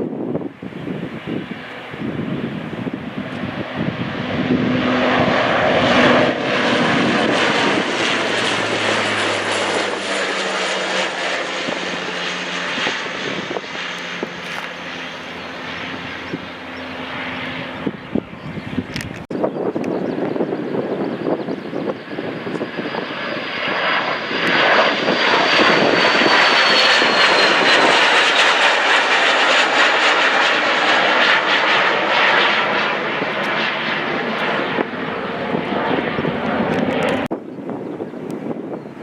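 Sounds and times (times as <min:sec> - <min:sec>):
jet engines passing: 0:00.0 - 0:39.0.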